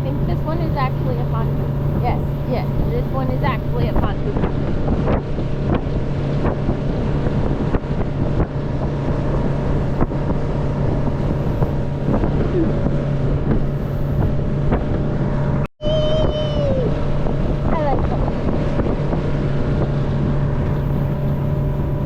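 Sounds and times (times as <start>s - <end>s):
motorboat engine drone: 0.0s - 22.0s
wind on microphone: 0.0s - 22.0s.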